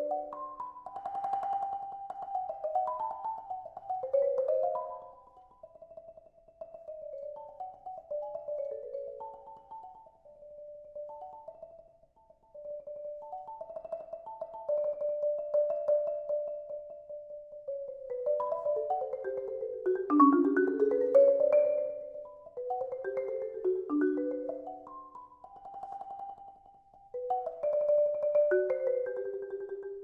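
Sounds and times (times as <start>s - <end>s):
marimba melody: 0.0s - 30.0s.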